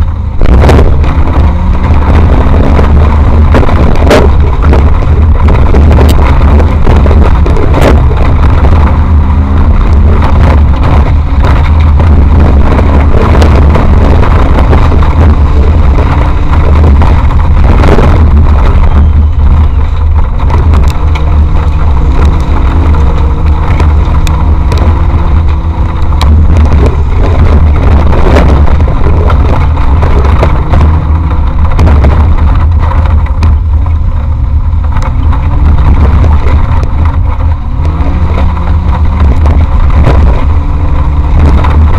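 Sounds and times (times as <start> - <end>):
heavy low rumble: 0.0 - 41.9
off-road vehicle engine revving: 0.0 - 41.9.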